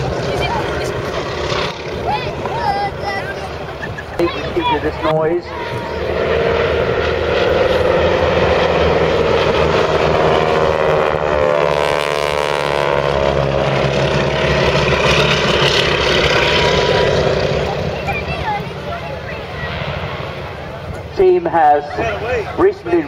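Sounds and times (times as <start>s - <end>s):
propeller biplanes flying past: 0.0s - 23.0s.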